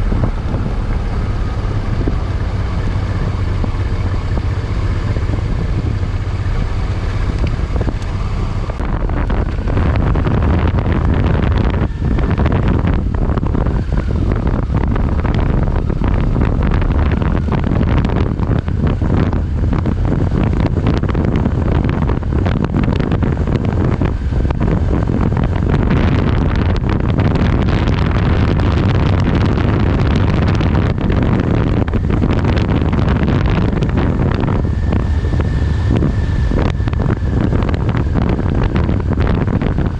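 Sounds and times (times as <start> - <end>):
low engine rumble: 0.0 - 39.9
wind buffeting microphone: 0.0 - 39.9.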